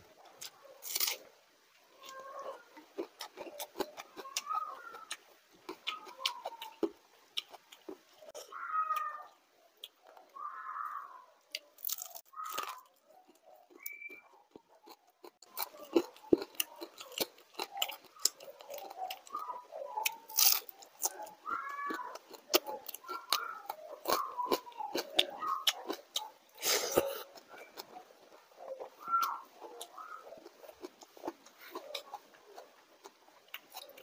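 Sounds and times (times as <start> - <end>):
chewing crisp food: 0.0 - 34.0.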